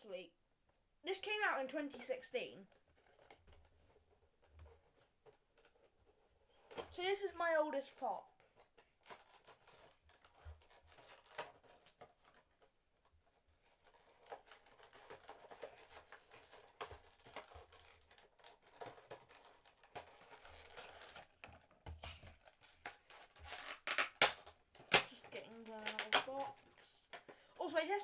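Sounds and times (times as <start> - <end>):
cardboard and plastic packaging handling: 2.6 - 28.0.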